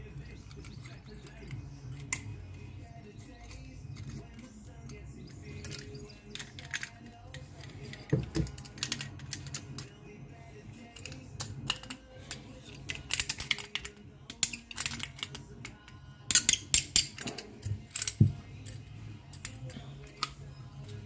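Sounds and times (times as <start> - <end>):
metal tools clattering: 0.0 - 10.1, 10.7 - 21.0.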